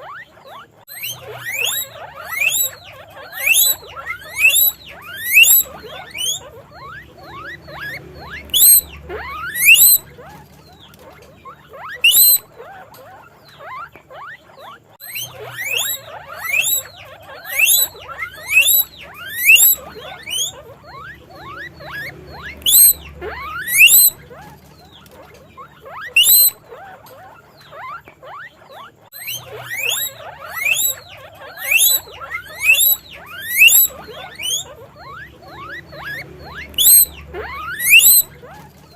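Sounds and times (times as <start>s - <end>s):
guinea pig wheeking: 0.0s - 38.9s.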